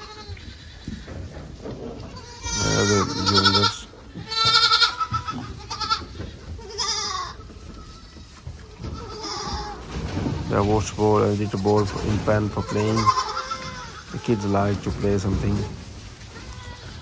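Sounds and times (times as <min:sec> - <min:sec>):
goat kids bleating: 0:00.0 - 0:17.0.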